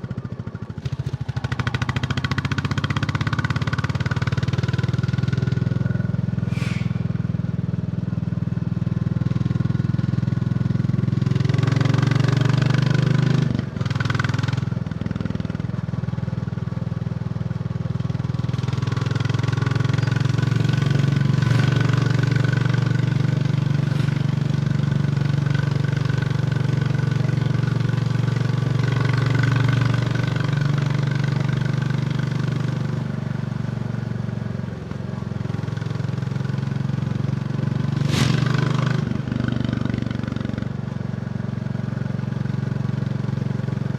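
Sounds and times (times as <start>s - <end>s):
motorcycle engine running: 0.0s - 6.4s, 7.2s - 43.9s.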